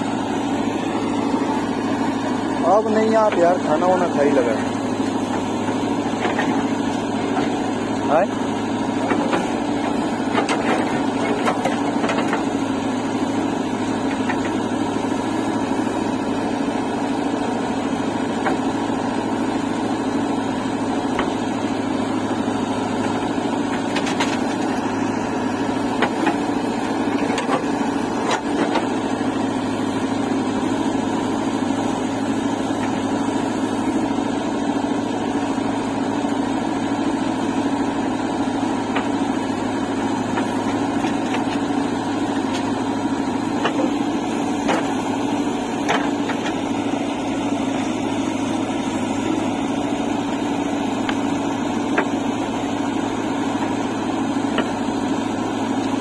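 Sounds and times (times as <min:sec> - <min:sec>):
backhoe digging soil: 0:00.0 - 0:56.0
diesel engine running: 0:00.0 - 0:56.0.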